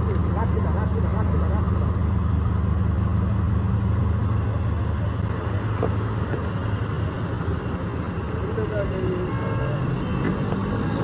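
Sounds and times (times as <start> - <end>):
car engine hum: 0.0 - 11.0
road and traffic noise: 0.0 - 11.0.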